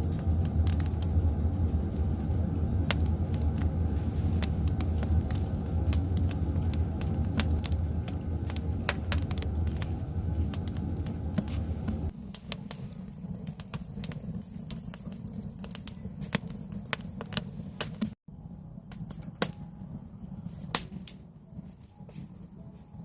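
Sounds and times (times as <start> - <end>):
firewood crackling and popping: 0.0 - 18.2, 18.9 - 21.6
low rumble of flame: 0.0 - 23.0.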